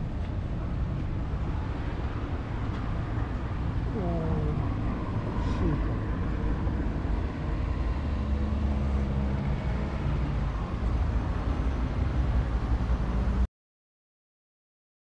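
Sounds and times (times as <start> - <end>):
road traffic rumble: 0.0 - 13.5.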